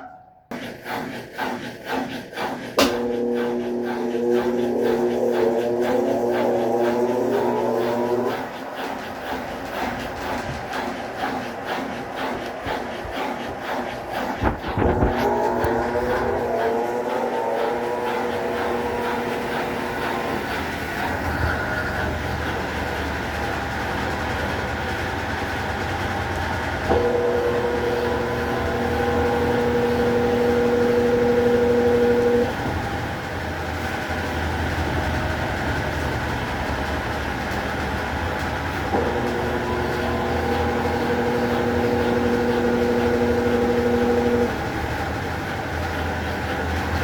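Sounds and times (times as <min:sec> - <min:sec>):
washing machine motor humming: 0:02.4 - 0:47.0.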